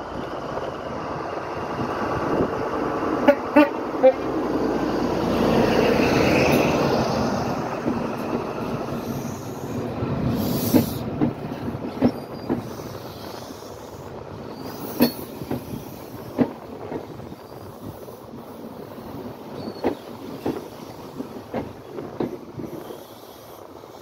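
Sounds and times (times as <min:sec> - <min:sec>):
train diesel engine passing: 0:00.0 - 0:24.0.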